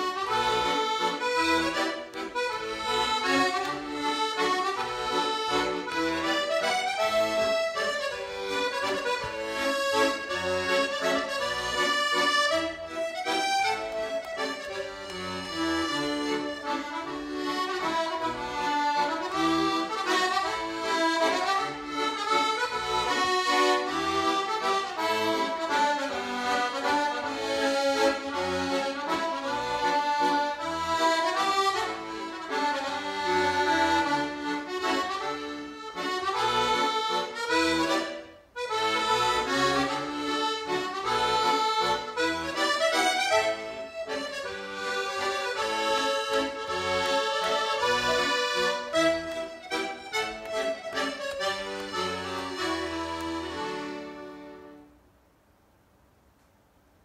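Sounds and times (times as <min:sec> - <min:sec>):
piano accordion playing a tune: 0:00.0 - 0:55.0.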